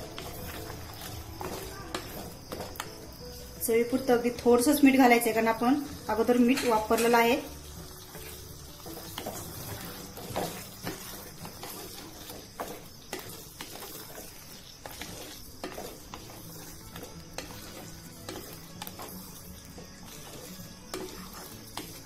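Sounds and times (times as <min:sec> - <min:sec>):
gravy sizzling: 0:00.0 - 0:22.0
spatula scraping a pan: 0:00.0 - 0:22.0.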